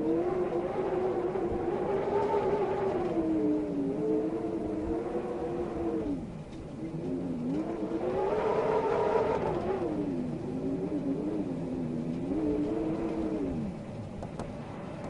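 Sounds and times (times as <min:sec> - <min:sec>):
engine revving: 0:00.0 - 0:13.8.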